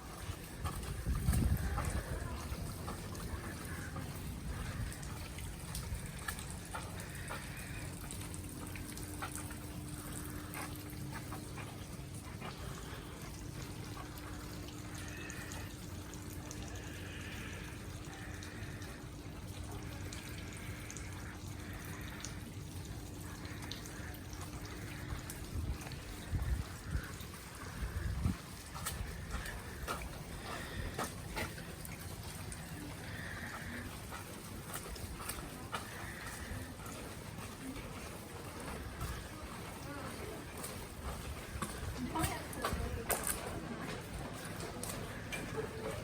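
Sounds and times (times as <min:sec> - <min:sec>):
water trickling and dripping: 0:00.0 - 0:46.0.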